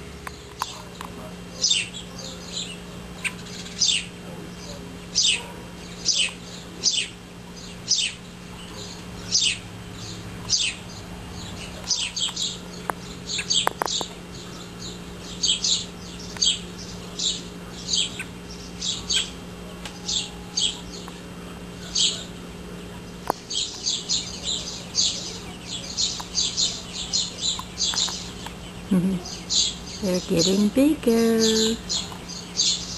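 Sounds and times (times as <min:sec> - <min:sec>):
bird chirping: 0:01.6 - 0:21.2, 0:21.8 - 0:22.4, 0:23.1 - 0:32.9.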